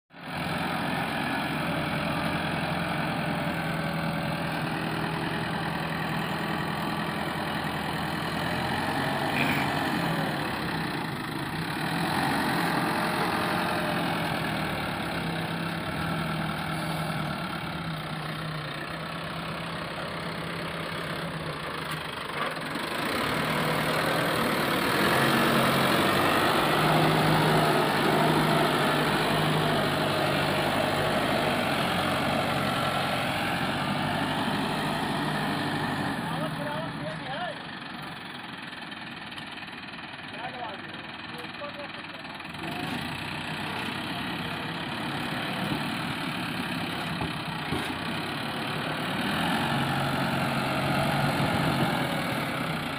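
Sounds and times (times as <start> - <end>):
tractor diesel engine running: 0.1 - 52.9.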